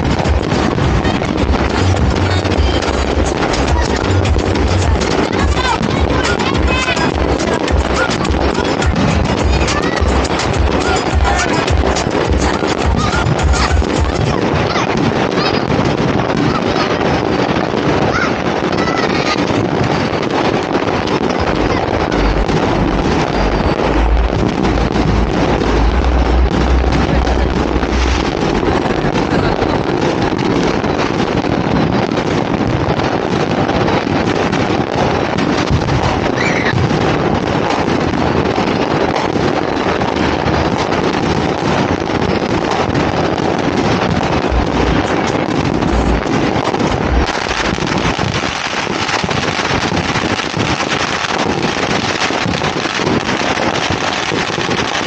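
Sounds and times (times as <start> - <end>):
fireworks crackling and popping: 0.0 - 55.0
wind buffeting microphone: 0.0 - 55.0.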